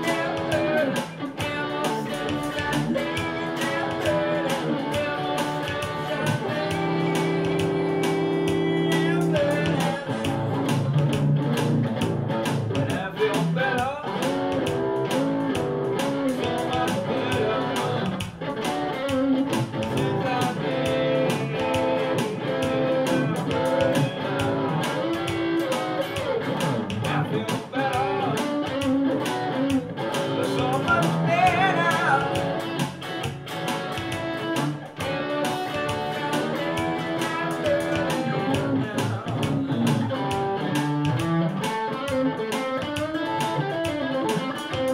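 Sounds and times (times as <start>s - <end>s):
electric guitar gospel shuffle: 0.0s - 44.9s
percussive beat: 0.0s - 44.9s.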